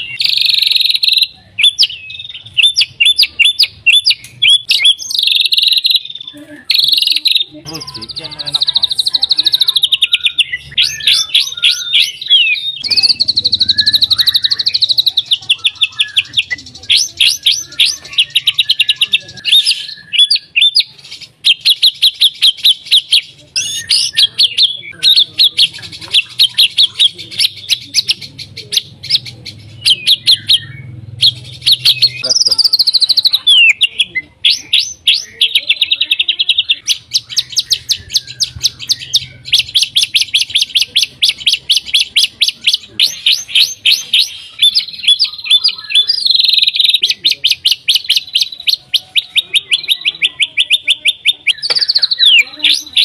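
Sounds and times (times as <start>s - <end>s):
songbird trilling and whistling: 0.0s - 53.0s.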